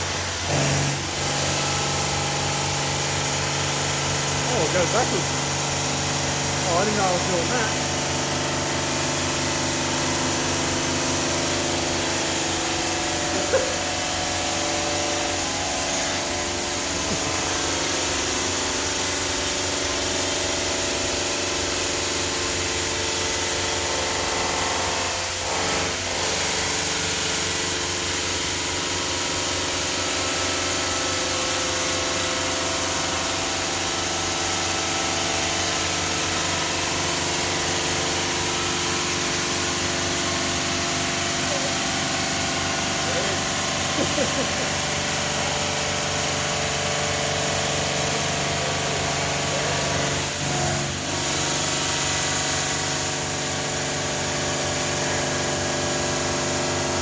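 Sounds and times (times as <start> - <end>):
water spray and blade on stone: 0.0 - 57.0.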